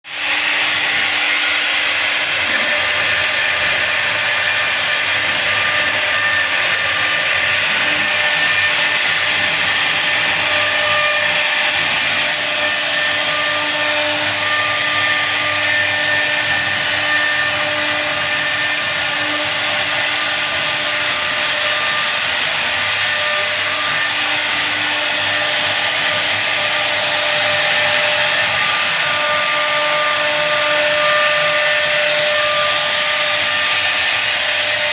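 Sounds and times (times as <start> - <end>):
router spindle cutting wood: 0.0 - 34.9.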